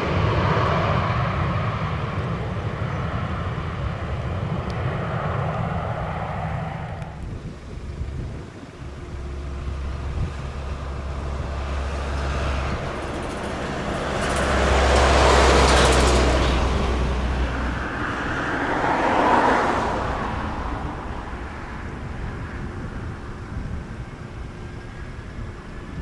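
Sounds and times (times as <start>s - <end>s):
jet engines: 0.0s - 26.0s
road traffic noise: 0.0s - 26.0s.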